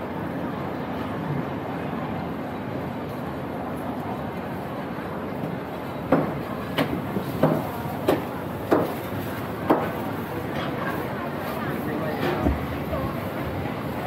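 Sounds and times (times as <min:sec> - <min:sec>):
street noise hum: 0:00.0 - 0:14.0.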